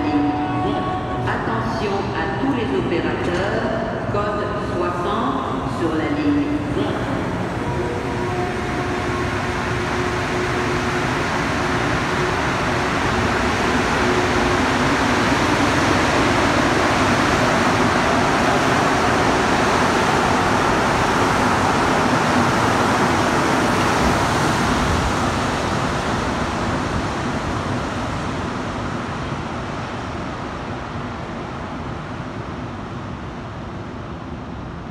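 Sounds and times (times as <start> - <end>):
metro train running: 0.0 - 34.9.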